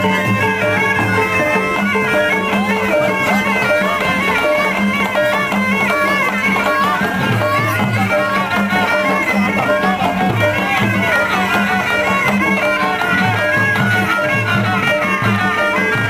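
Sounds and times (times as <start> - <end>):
sliding wavering melody: 0.0 - 16.0.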